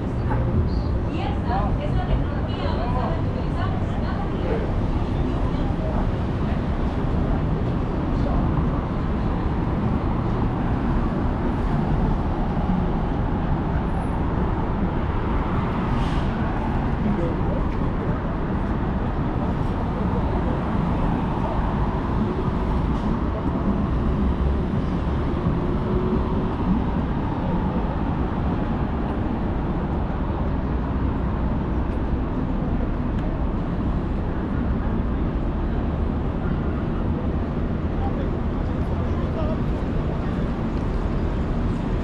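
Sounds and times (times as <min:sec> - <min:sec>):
passers-by talking: 0:00.0 - 0:42.0
traffic rumble: 0:00.0 - 0:42.0.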